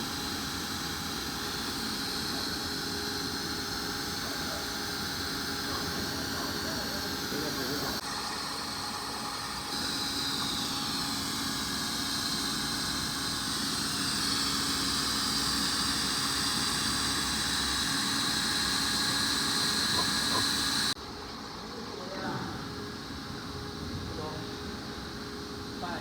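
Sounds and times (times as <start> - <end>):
plastic welding machine whining: 0.0 - 21.0.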